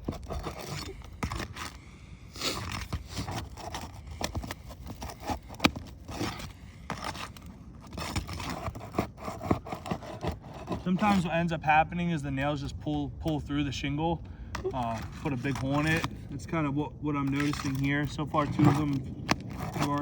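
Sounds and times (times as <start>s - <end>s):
roofing tool scraping shingles: 0.0s - 11.6s, 14.6s - 20.0s.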